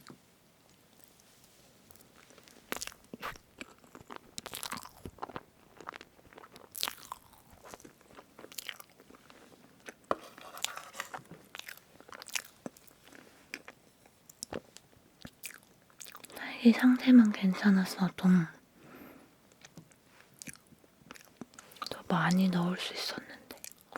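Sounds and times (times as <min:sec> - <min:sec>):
chewing and wet mouth sounds: 0:00.0 - 0:16.4, 0:19.5 - 0:22.0, 0:23.5 - 0:23.9.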